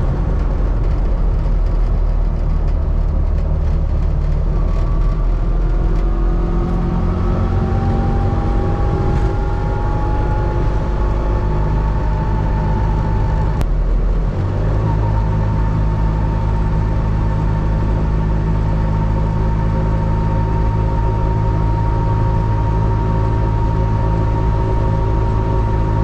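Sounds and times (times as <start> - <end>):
two-stroke car engine running: 0.0 - 26.0.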